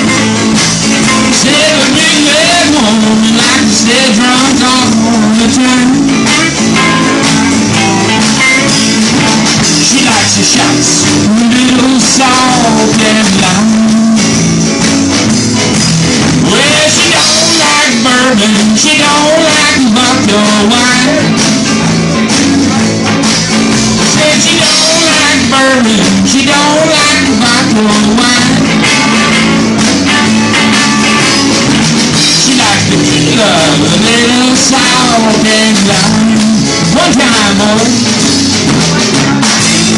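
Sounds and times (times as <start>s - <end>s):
rock band playing loud: 0.0s - 39.9s.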